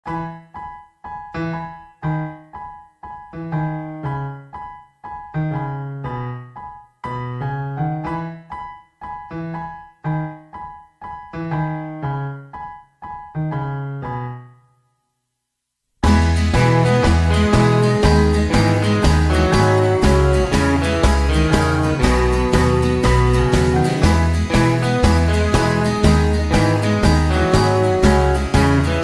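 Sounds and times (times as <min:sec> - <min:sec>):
electric piano music: 0:00.1 - 0:14.7, 0:16.0 - 0:29.0.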